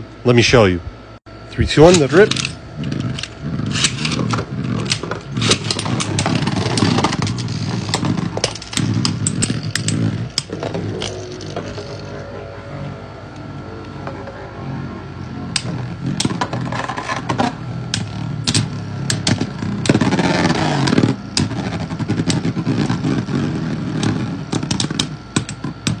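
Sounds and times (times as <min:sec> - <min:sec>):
spinning tops whirring: 0:01.7 - 0:26.0
spinning tops scraping together: 0:01.8 - 0:12.9, 0:15.4 - 0:26.0.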